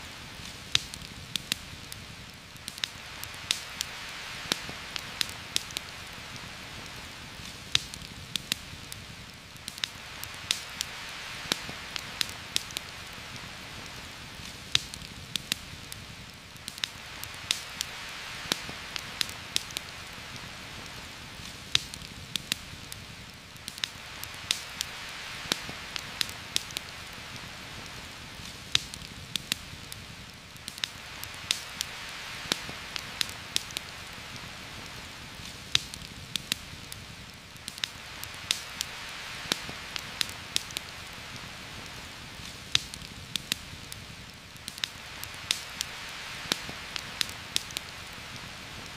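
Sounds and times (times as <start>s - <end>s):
campfire popping and crackling: 0.0s - 48.9s
heavy rain in a forest: 0.0s - 48.9s.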